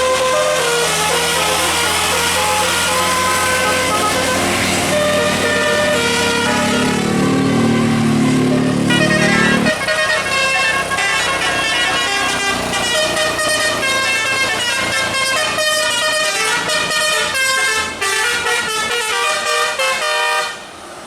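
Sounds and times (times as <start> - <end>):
bus musical air horn: 0.0 - 20.8.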